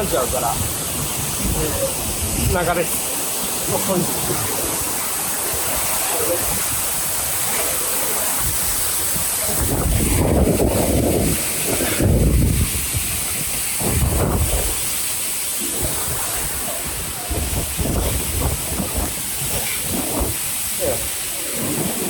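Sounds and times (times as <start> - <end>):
waterfall rushing: 0.0 - 22.0
wind gusting against microphone: 0.0 - 22.0.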